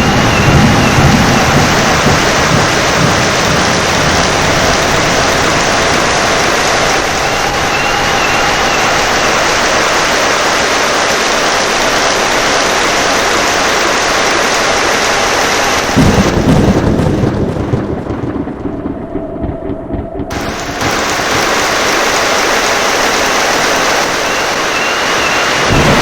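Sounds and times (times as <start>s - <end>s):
heavy rain: 0.0s - 26.0s
thunder rumble: 0.0s - 26.0s.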